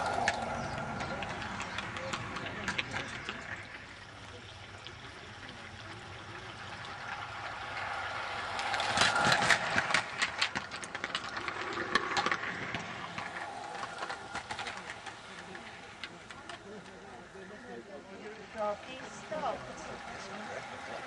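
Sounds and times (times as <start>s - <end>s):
model train wagons rattling: 0.0s - 21.0s
wheels clicking over track: 0.0s - 21.0s.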